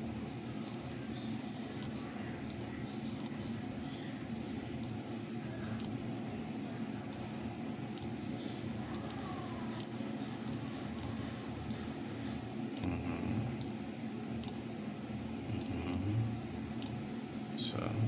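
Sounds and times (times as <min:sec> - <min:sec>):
computer fan hum: 0:00.0 - 0:18.0.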